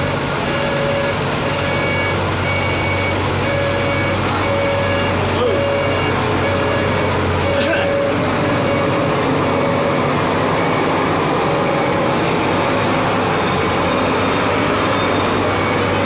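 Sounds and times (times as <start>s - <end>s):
diesel engine and machinery running: 0.0s - 16.0s.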